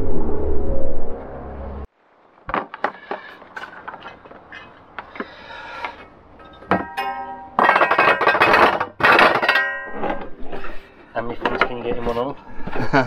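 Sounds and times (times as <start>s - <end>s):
rustling and scraping handling noise: 2.4s - 13.0s.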